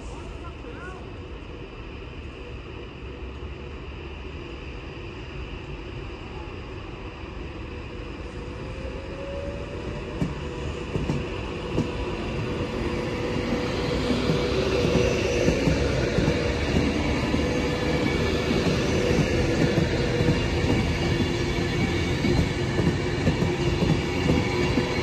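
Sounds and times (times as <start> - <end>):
electric train rumbling past: 0.0 - 25.0.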